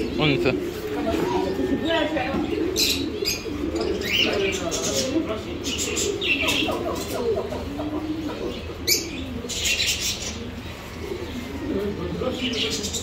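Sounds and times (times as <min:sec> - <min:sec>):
cage birds chirping: 0:00.0 - 0:13.0
pigeons cooing: 0:00.0 - 0:13.0.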